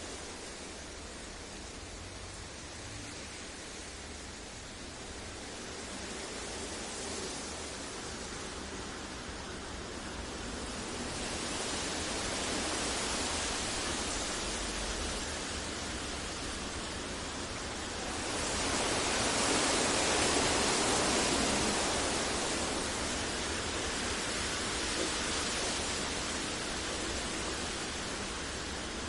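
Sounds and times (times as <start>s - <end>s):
even rushing hiss: 0.0s - 29.0s.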